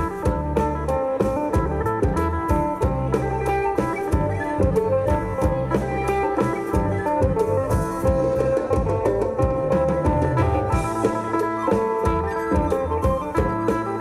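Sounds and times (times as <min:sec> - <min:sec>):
drum kit beat: 0:00.0 - 0:14.0
plucked string melody: 0:00.0 - 0:14.0.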